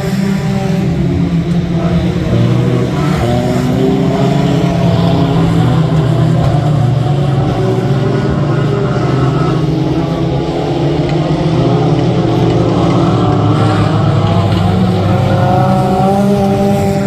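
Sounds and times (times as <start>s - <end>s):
race truck engines: 0.0s - 17.0s.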